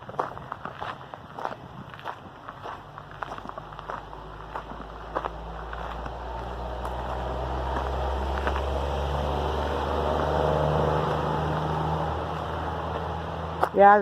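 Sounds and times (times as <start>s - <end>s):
passing vehicle engine drone: 2.5s - 14.0s.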